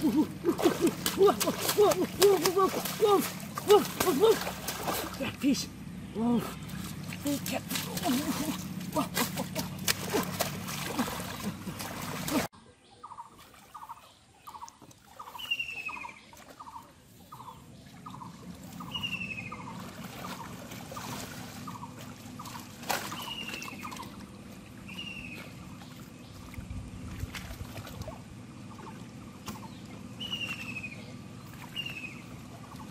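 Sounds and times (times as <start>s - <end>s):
water splashing and sloshing: 0.0s - 12.5s, 13.2s - 32.9s.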